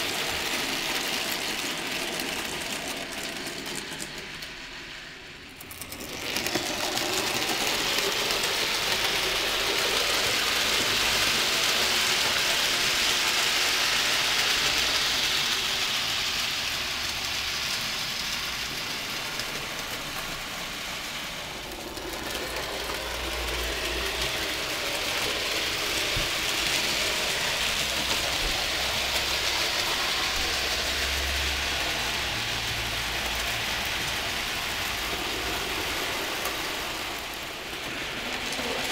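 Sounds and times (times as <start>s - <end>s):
model train wheels hissing on rails: 0.0s - 38.9s.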